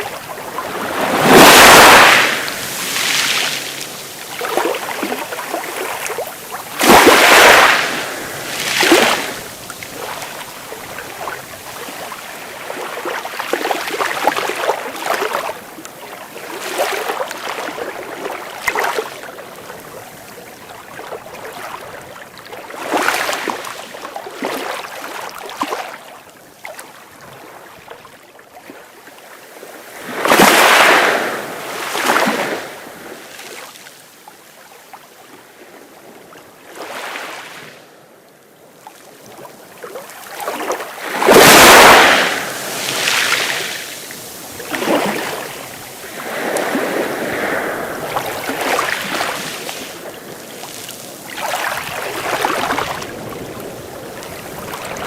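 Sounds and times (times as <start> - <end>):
sea waves breaking on shore: 0.0 - 37.9, 38.8 - 55.0.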